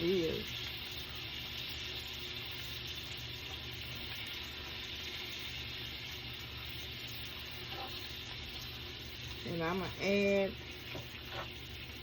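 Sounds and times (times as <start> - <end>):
greens sizzling in a pan: 0.0 - 12.0.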